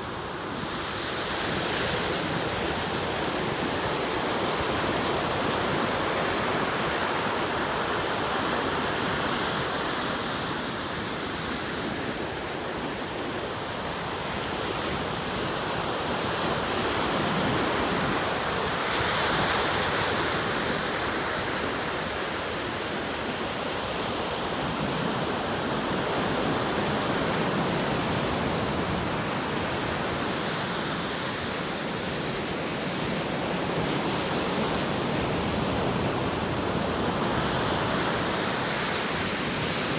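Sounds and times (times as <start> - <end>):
surf breaking and washing ashore: 0.0 - 39.9.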